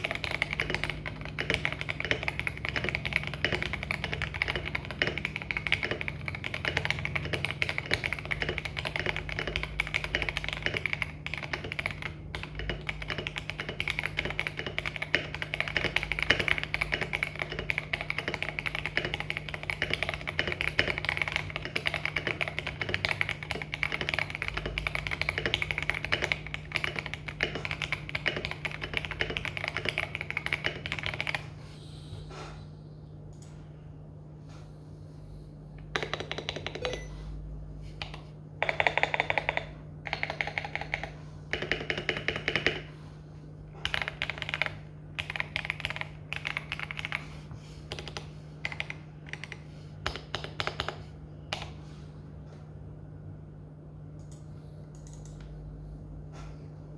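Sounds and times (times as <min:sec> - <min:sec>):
mechanical keyboard typing: 0:00.0 - 0:31.6, 0:35.8 - 0:37.2, 0:38.0 - 0:43.0, 0:43.8 - 0:47.3, 0:47.9 - 0:51.8, 0:54.2 - 0:55.5
steady low hum: 0:00.0 - 0:56.9.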